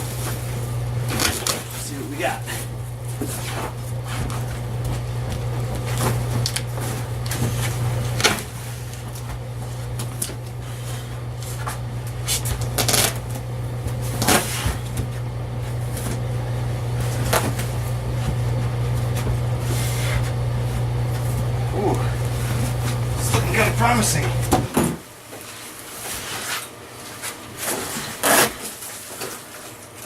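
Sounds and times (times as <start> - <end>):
steady low hum: 0.0 - 26.2.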